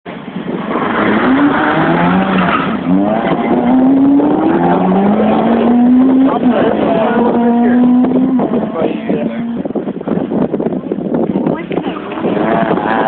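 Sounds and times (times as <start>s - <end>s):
rally car engine revving: 0.4s - 10.3s, 11.8s - 13.0s.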